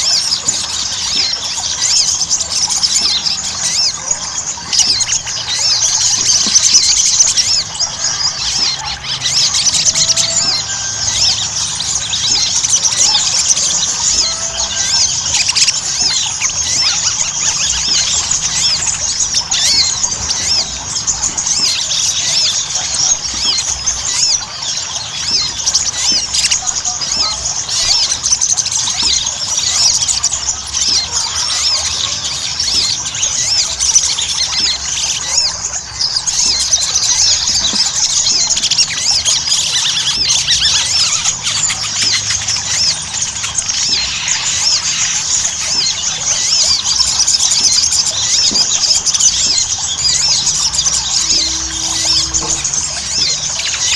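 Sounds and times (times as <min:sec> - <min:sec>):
bird singing rapid squeaky chirps: 0:00.0 - 0:53.9.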